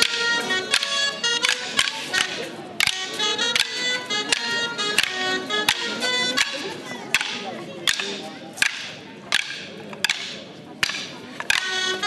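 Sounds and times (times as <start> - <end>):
wooden sticks clacking: 0.0 - 12.0.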